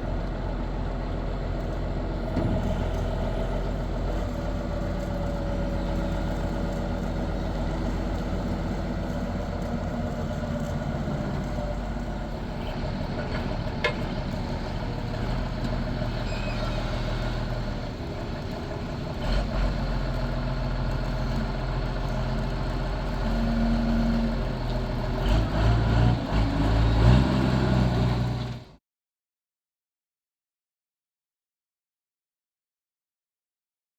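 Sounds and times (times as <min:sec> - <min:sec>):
diesel engine idling: 0:00.0 - 0:28.7.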